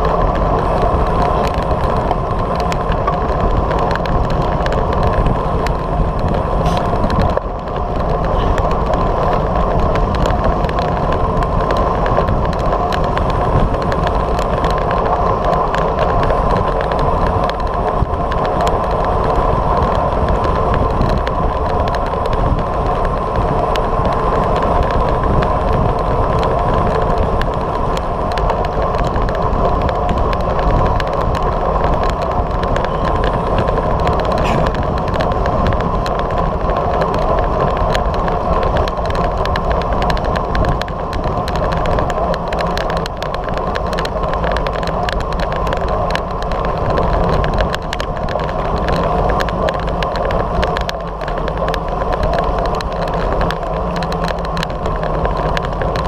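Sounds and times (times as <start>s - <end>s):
bike tyres humming on asphalt: 0.0s - 56.0s
wind rushing over microphone: 0.0s - 56.0s.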